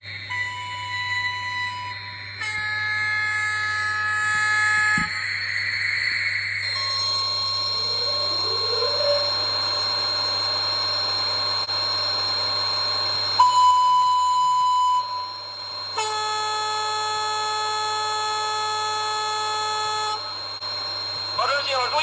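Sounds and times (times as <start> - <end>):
electrical whine: 0.0 - 22.0.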